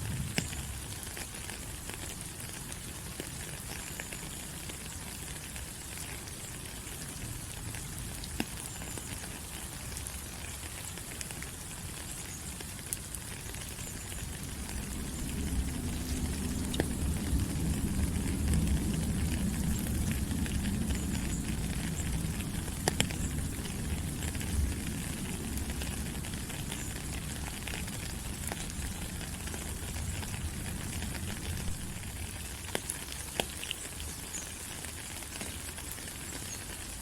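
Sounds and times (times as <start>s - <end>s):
rain falling on leaves: 0.0s - 37.0s.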